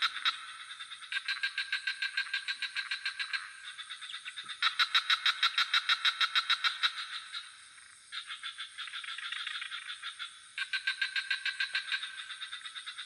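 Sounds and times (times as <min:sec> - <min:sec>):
frogs trilling: 0:00.0 - 0:13.0
high insect drone: 0:00.0 - 0:13.0.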